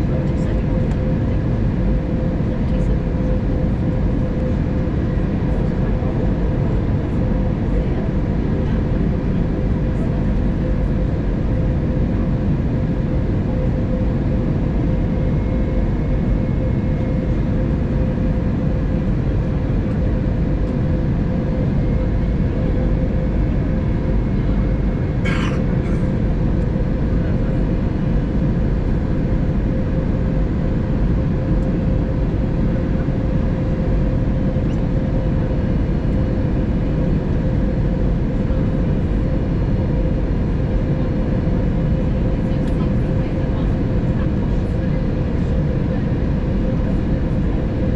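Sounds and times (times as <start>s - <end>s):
airliner cabin roar: 0.0s - 47.9s
steady hum: 0.0s - 47.9s.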